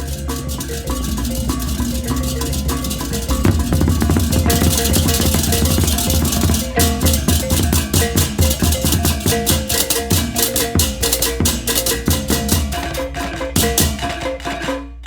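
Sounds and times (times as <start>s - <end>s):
gong-chime notes: 0.0s - 14.8s
low gongs: 0.0s - 14.8s
hand cymbals clashing: 0.0s - 14.9s
hand drums: 0.0s - 15.0s.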